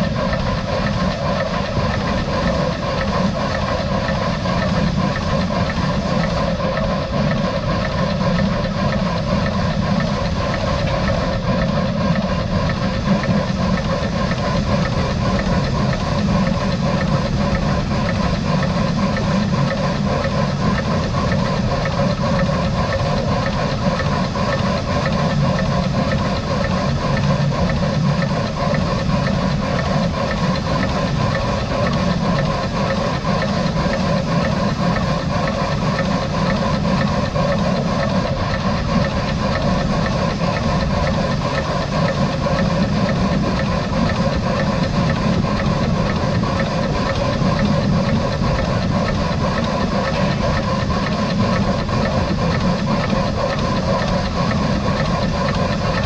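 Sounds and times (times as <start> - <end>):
steam locomotive running: 0.0 - 56.0.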